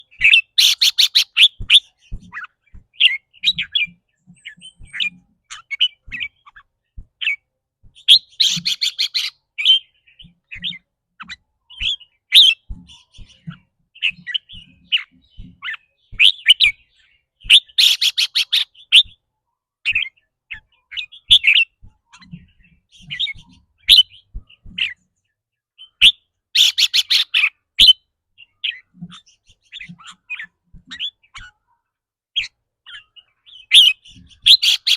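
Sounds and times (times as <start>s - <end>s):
bird chirping: 0.0s - 34.9s.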